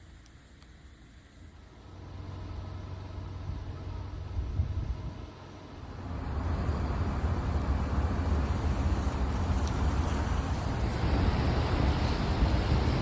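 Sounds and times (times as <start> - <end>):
car engine rumble and tyre noise: 0.0 - 13.0.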